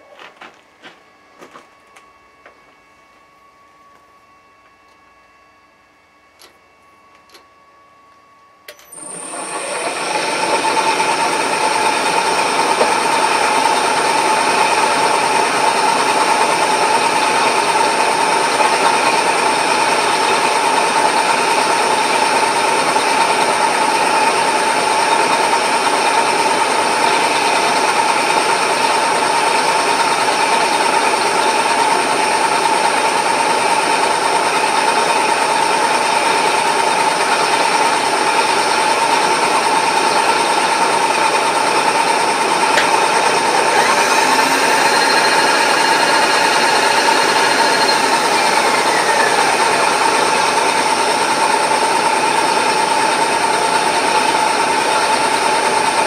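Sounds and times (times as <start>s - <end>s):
milling machine drone with whine: 0.0s - 56.0s.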